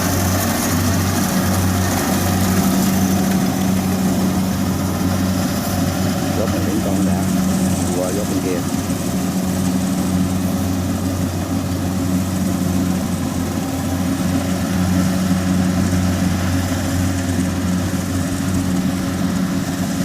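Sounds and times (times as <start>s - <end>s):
diesel engine running steadily: 0.0s - 20.0s.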